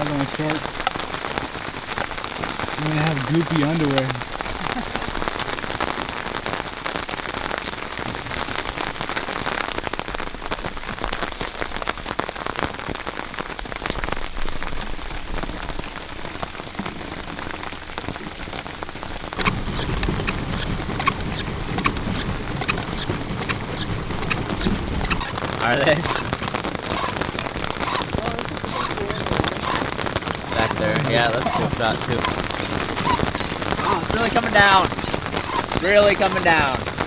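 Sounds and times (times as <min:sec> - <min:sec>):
rain on fabric boat top: 0:00.0 - 0:37.0
rain on lake: 0:00.0 - 0:37.0.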